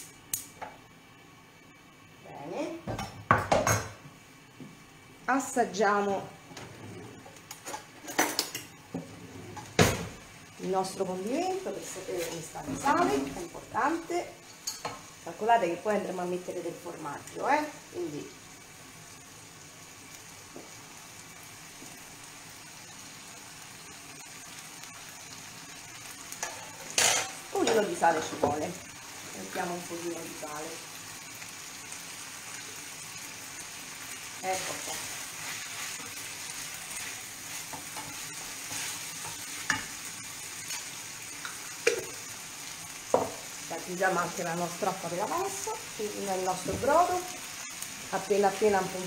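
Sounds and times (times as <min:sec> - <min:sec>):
broth boiling in pot: 0:00.0 - 0:49.0
sauce sizzling in frying pan: 0:00.0 - 0:49.0.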